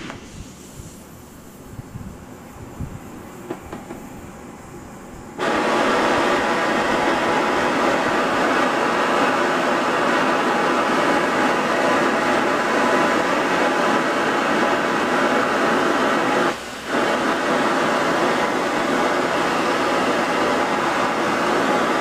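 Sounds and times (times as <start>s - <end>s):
cutting torch hissing: 0.0s - 22.0s.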